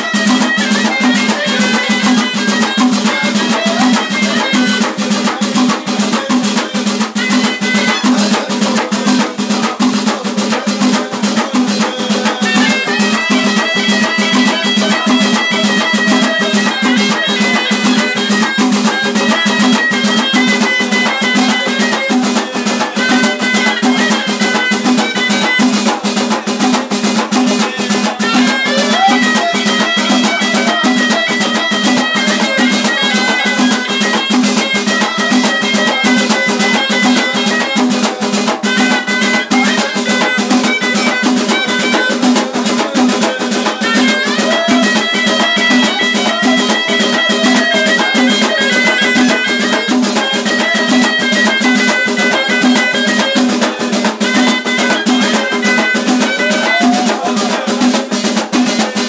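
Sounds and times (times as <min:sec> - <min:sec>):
fast drum beat: 0:00.0 - 0:59.0
reed shawm melody: 0:00.0 - 0:59.0.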